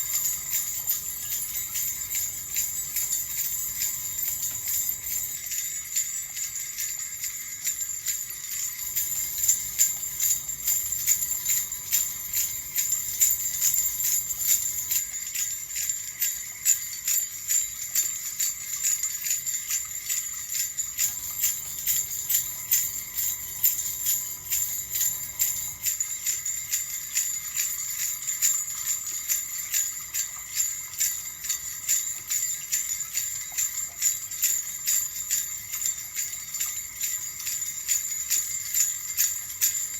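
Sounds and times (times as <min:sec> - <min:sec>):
jingle bells shaking: 0:00.0 - 0:39.9.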